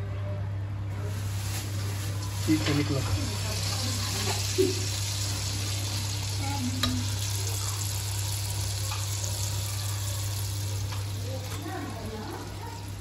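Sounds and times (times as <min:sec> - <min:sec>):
batter sizzling in hot oil: 0:01.0 - 0:13.0.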